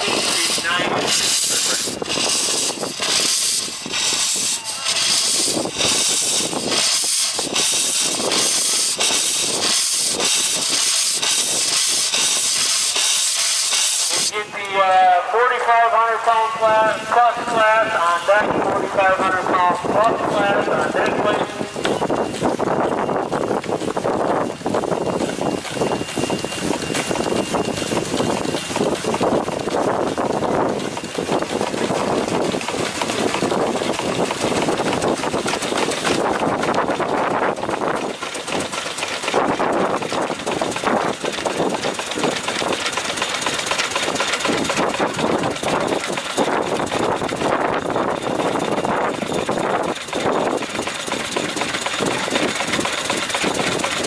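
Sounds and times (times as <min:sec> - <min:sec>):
steam hissing: 0:00.0 - 0:15.4, 0:17.8 - 0:54.0
steam exhaust chuffs: 0:00.0 - 0:54.0.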